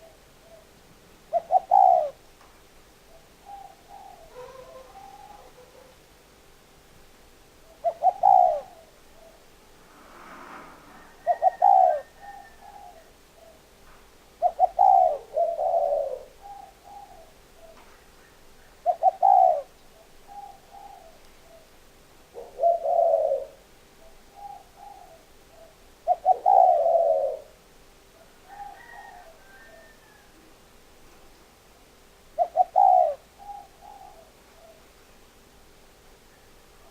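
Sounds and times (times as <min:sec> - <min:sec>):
dove cooing: 0:00.0 - 0:02.3, 0:03.0 - 0:06.0, 0:07.6 - 0:27.6, 0:28.2 - 0:30.6, 0:32.2 - 0:35.0.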